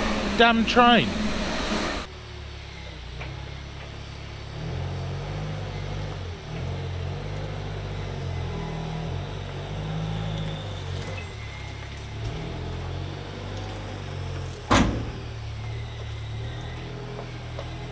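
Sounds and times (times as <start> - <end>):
forklift engine under load: 0.0 - 17.9.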